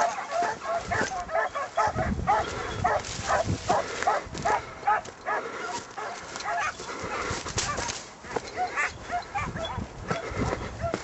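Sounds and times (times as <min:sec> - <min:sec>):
hounds yelping barks: 0:00.0 - 0:11.0.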